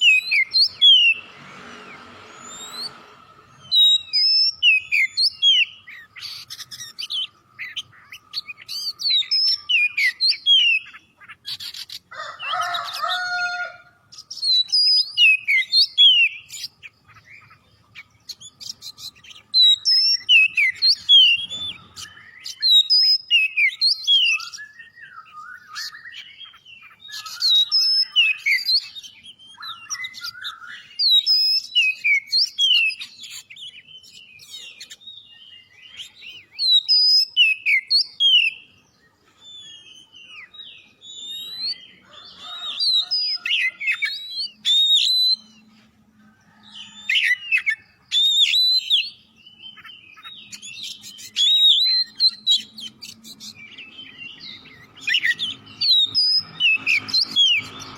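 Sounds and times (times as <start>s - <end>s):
bird singing whistled phrases: 0.0s - 1.2s, 3.6s - 11.9s, 14.3s - 16.8s, 18.4s - 38.8s, 39.4s - 45.6s, 46.8s - 57.9s.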